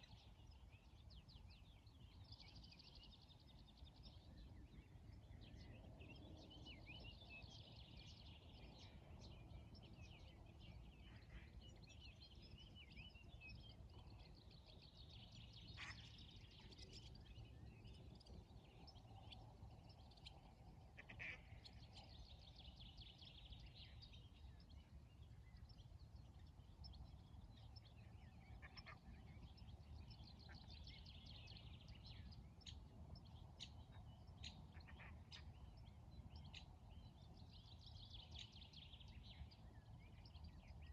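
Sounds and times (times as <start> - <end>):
faint birdsong chirps: 0.0 - 40.9.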